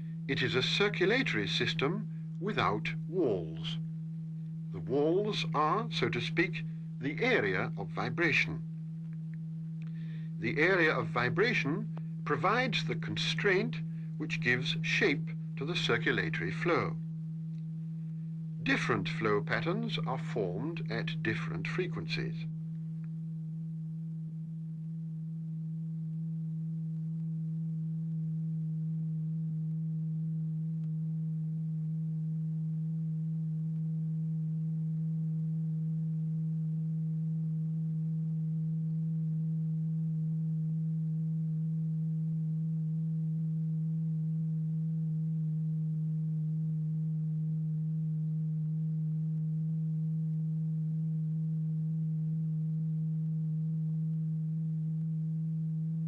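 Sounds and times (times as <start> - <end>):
low electronic tone: 0.0 - 56.0.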